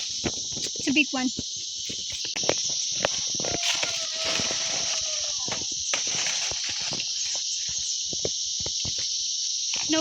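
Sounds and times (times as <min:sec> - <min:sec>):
insects droning: 0:00.0 - 0:10.0
leaves rustling and clicking: 0:00.0 - 0:10.0.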